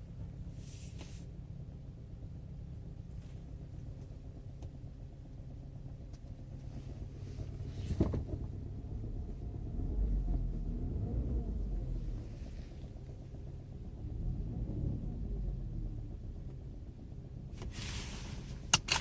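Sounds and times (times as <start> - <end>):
car engine rumble from cabin: 0.0 - 19.0
engine tapping and knocking: 1.4 - 19.0.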